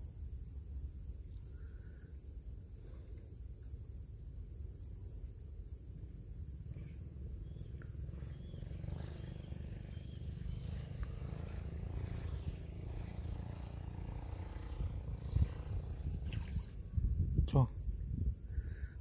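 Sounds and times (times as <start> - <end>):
low rumble: 2.4 - 19.0.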